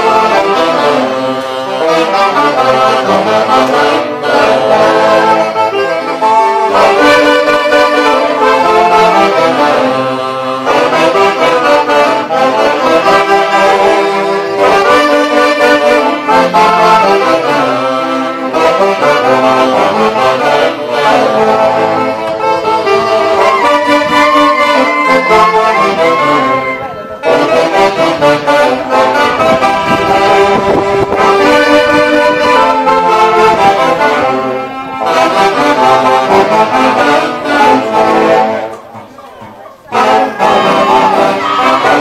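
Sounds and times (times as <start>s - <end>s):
wind instruments playing dance music: 0.0s - 42.0s.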